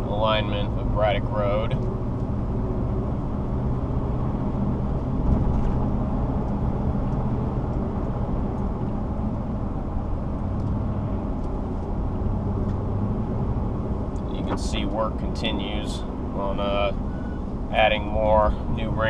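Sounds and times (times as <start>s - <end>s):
car engine hum: 0.0s - 19.0s
tyre and road noise: 0.0s - 19.0s.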